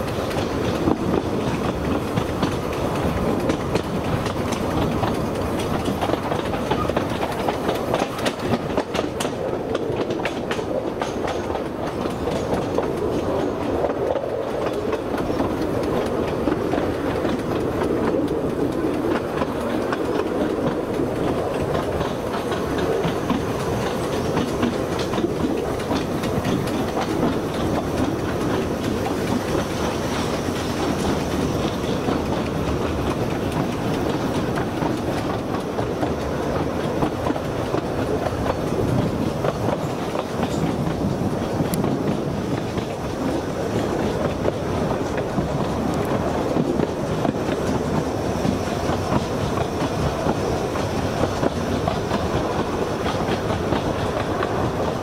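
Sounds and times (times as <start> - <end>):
clickety-clack of wheels: 0.0 - 55.0
train rolling rumble: 0.0 - 55.0.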